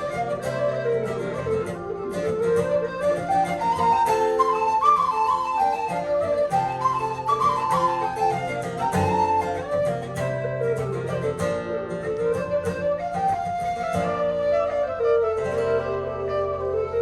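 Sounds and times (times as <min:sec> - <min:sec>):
flute-like melody: 0:00.0 - 0:17.0.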